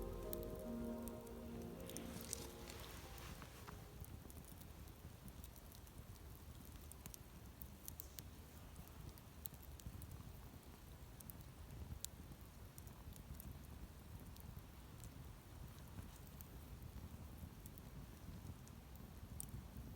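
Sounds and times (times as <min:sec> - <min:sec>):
campfire crackles and pops: 0:00.0 - 0:19.7
faint low fire rumble: 0:00.0 - 0:19.9.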